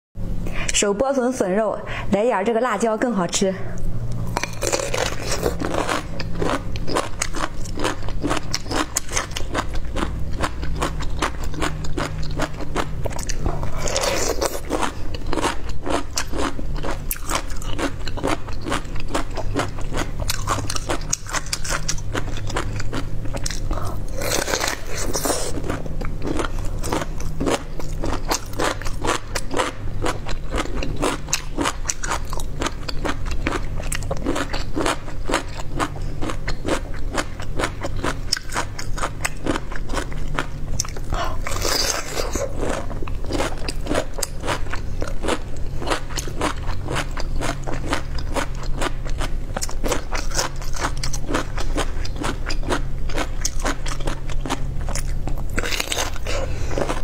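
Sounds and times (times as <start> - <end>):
low steady hum: 0.2 - 57.0
chewing crisp bamboo shoot: 4.2 - 57.0.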